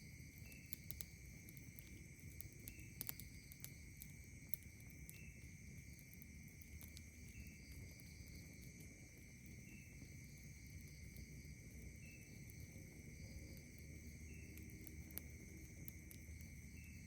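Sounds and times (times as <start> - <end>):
campfire crackling: 0.0 - 17.0
insects trilling: 0.0 - 17.0.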